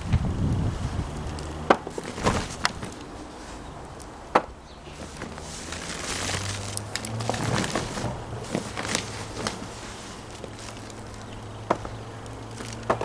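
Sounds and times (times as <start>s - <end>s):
rustle of soil and fabric sack: 0.6s - 4.1s, 4.7s - 13.0s.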